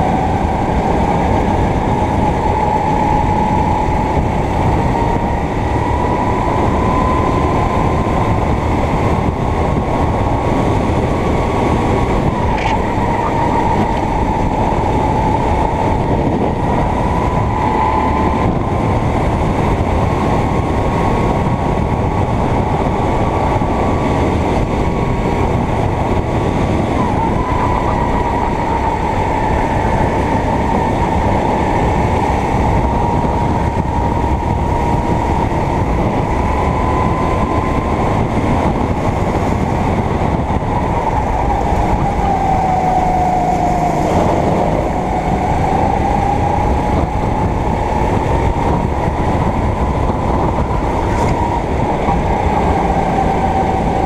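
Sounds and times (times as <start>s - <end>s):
heavy rumble: 0.0s - 54.0s
kart engine running hard: 0.0s - 54.0s.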